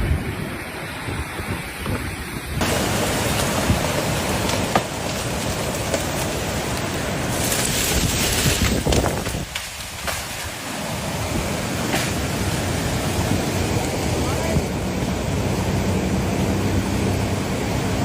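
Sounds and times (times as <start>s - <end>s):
floodwater rushing: 0.0s - 18.0s
rain: 0.0s - 18.0s.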